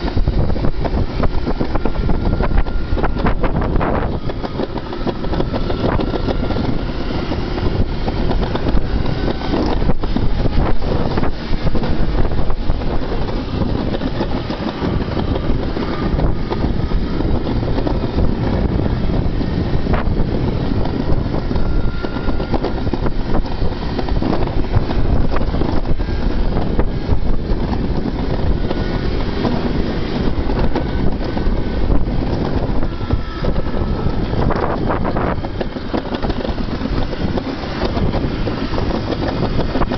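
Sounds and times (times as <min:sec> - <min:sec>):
sled wheels rumbling on metal: 0:00.0 - 0:39.9
wind buffeting microphone: 0:00.0 - 0:39.9.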